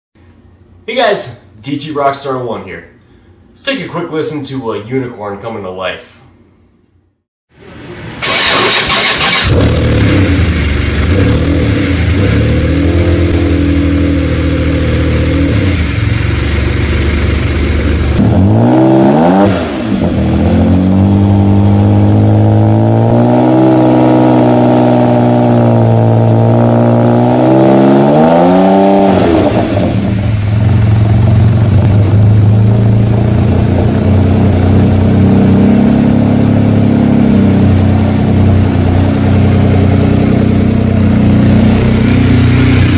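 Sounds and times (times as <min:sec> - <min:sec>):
car engine starting and idling: 0:07.6 - 0:23.4, 0:24.3 - 0:42.9
engine revving: 0:08.2 - 0:42.9.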